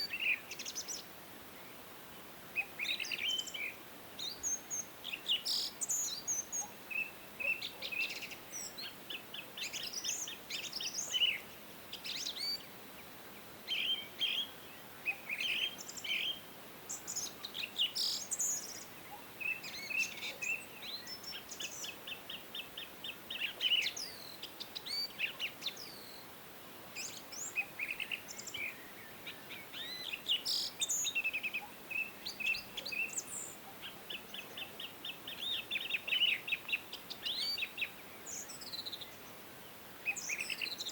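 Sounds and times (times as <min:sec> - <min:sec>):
faint background hiss: 0:00.0 - 0:40.9
songbirds chirping and trilling: 0:00.0 - 0:40.9.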